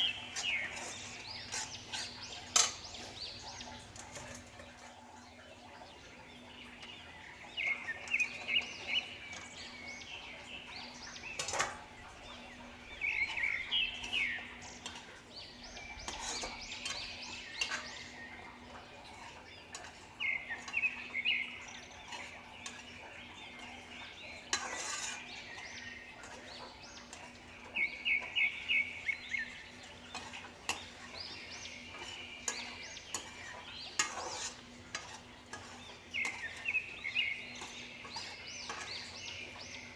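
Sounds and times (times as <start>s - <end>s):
metal spatula scraping in a pan: 0.0s - 5.2s, 6.8s - 39.9s.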